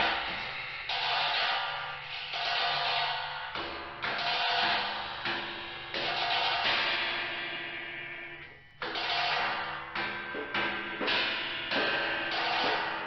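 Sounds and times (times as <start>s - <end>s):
sharp crash-like percussion hits: 0.0s - 13.0s.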